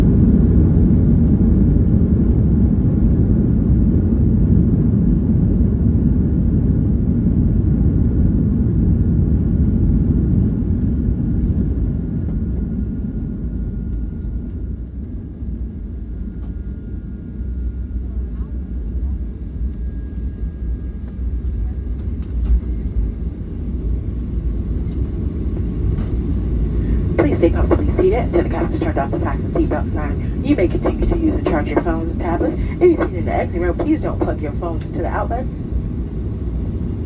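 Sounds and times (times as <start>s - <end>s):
jet engines and runway rumble: 0.0s - 37.0s.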